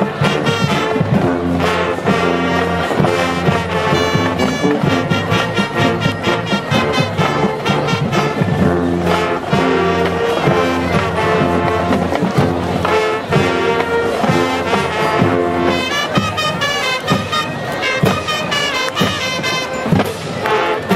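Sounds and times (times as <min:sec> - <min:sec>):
brass chords: 0:00.0 - 0:20.9
marching band playing: 0:00.0 - 0:20.9.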